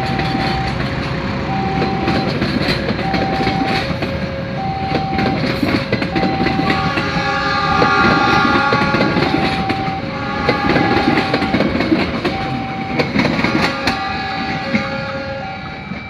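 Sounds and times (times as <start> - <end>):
train wheels clicking over rail joints: 0.0 - 16.0
two-tone warning alarm: 0.0 - 16.0.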